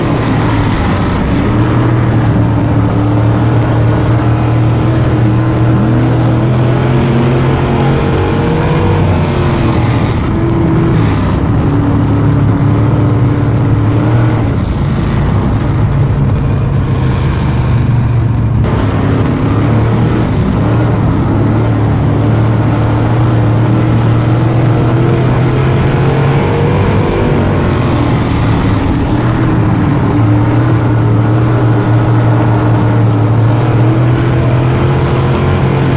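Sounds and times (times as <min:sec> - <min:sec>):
race car engines revving: 0:00.0 - 0:35.9.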